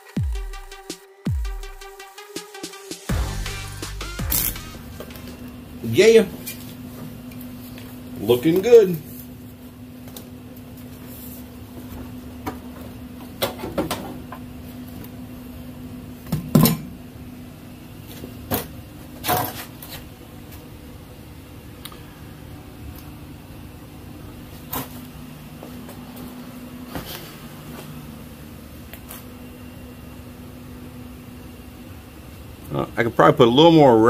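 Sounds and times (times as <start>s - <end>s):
shop machinery humming: 3.1s - 34.0s.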